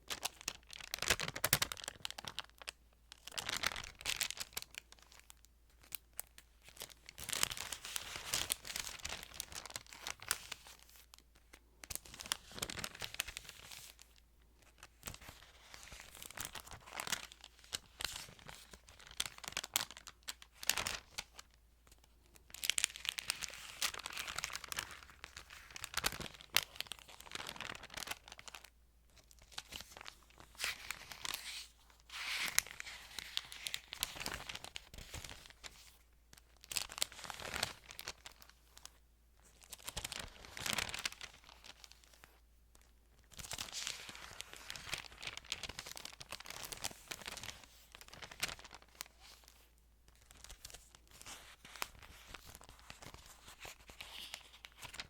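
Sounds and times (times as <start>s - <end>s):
thin pages turning and crinkling: 0.0s - 55.0s.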